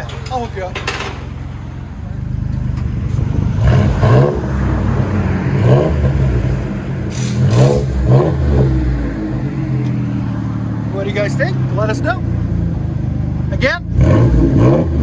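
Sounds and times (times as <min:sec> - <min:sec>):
engine revving through exhaust: 0:01.8 - 0:15.0.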